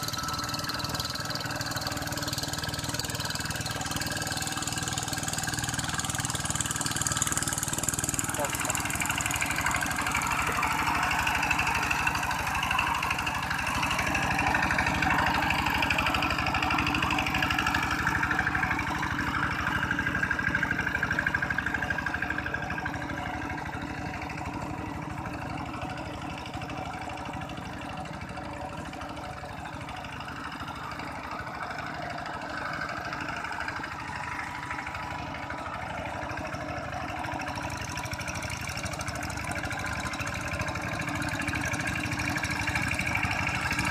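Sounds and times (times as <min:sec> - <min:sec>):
diesel engine chugging: 0:00.0 - 0:43.9
wheels churning through water: 0:00.0 - 0:43.9.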